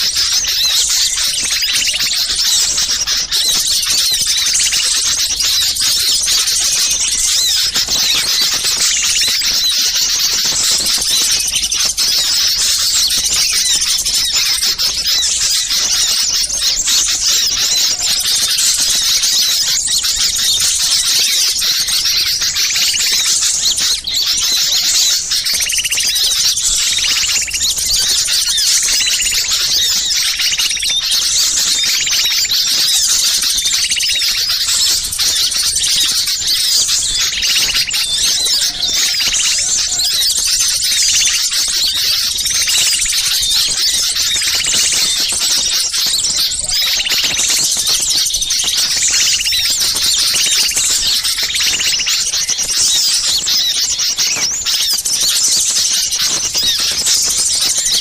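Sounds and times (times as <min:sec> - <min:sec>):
lower scolding bird call: 0:00.0 - 0:58.0
songbird flock chirping: 0:00.0 - 0:58.0.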